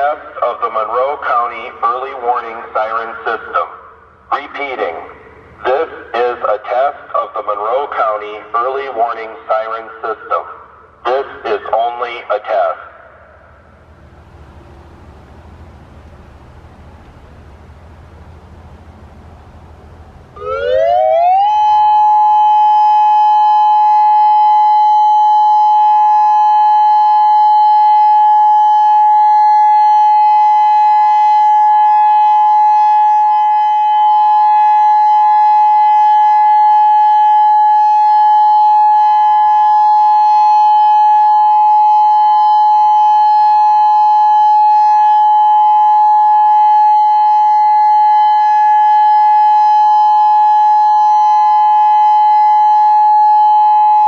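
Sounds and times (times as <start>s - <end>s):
outdoor warning siren: 0.0s - 54.0s.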